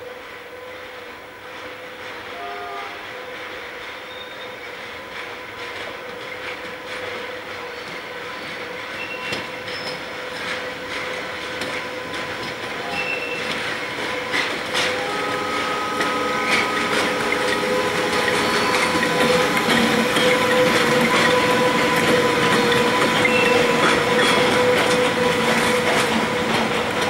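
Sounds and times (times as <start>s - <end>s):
electric locomotive whine: 0.0s - 27.0s.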